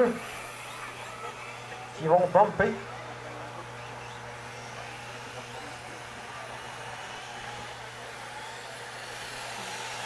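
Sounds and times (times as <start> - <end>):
constant low hum: 0.0 - 10.0
rc car motors whirring: 0.0 - 10.0.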